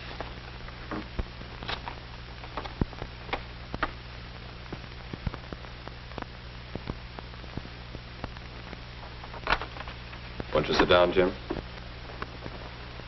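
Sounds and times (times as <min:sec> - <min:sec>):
crackles and pops: 0:00.0 - 0:13.0
film soundtrack hum and hiss: 0:00.0 - 0:13.0.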